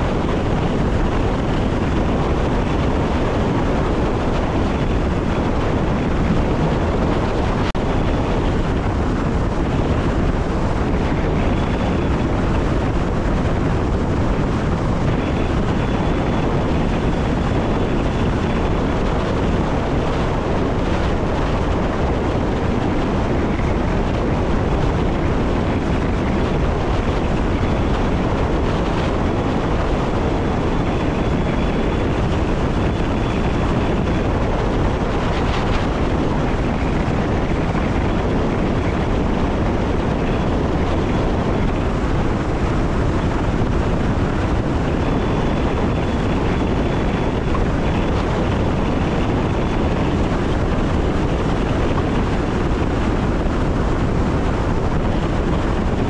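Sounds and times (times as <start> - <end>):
faint high whine: 0.0 - 56.0
train wheels rumbling on rails: 0.0 - 56.0.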